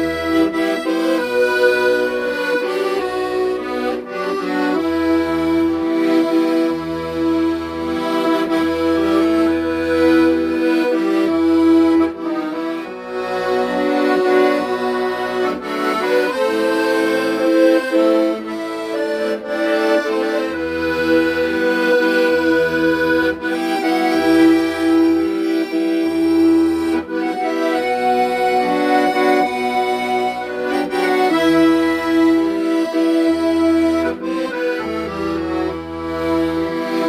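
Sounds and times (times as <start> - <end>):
accordion melody: 0.0 - 37.0.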